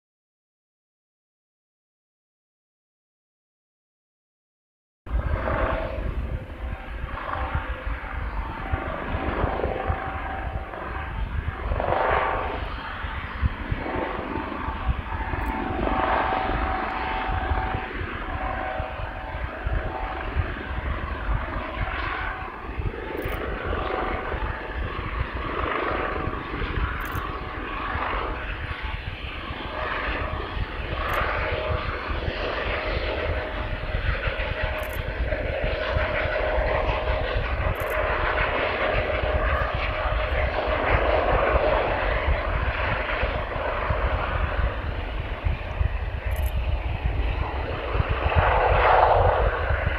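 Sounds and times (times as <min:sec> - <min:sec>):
helicopter turbine and rotor noise: 0:05.1 - 0:49.9.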